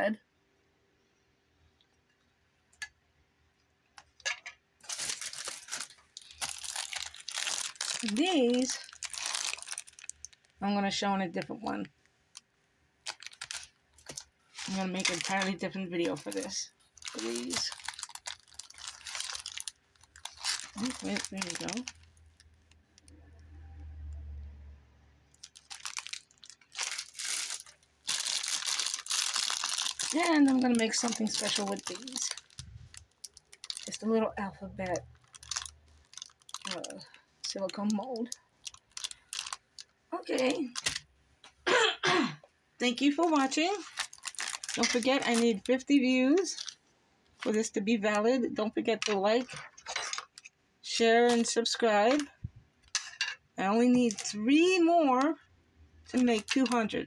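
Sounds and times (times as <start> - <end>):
plastic packaging crinkling: 4.8 - 23.1, 25.3 - 34.2, 34.8 - 41.1, 42.9 - 46.8, 47.4 - 54.9, 56.1 - 57.0.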